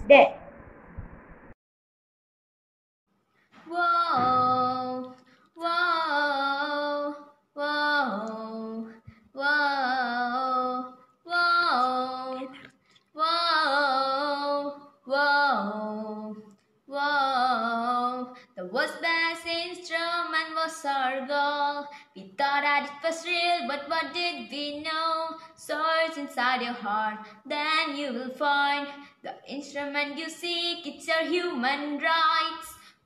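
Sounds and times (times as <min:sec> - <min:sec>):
girl singing unaccompanied: 0:03.6 - 0:33.0.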